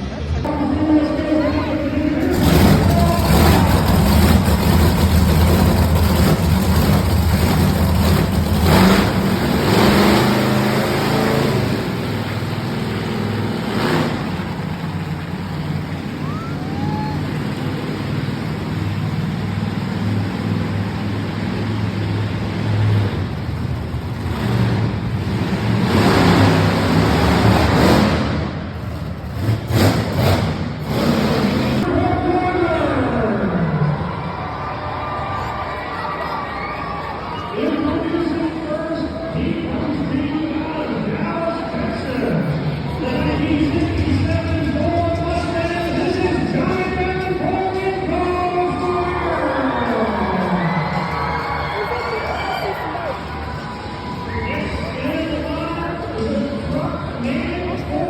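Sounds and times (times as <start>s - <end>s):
monster truck engine revving: 1.1s - 58.0s.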